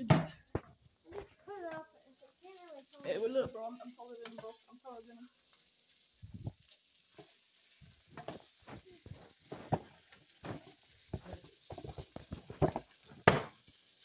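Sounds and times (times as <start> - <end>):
frying sizzle: 0.0 - 14.0.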